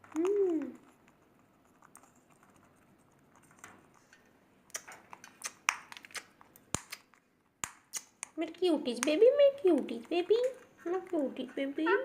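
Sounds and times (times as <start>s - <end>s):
parrots cracking seeds: 0.0s - 10.6s.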